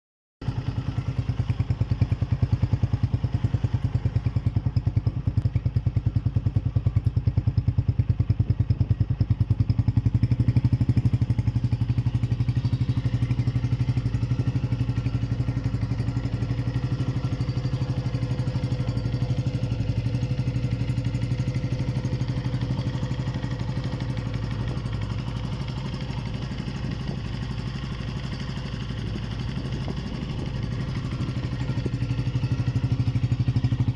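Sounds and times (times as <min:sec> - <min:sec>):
motorcycle engine idling: 0:00.4 - 0:33.9.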